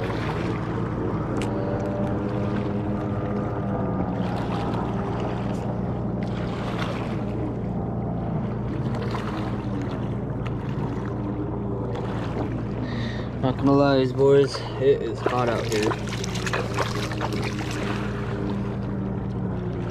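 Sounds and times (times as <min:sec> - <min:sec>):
steady engine drone: 0:00.0 - 0:19.9.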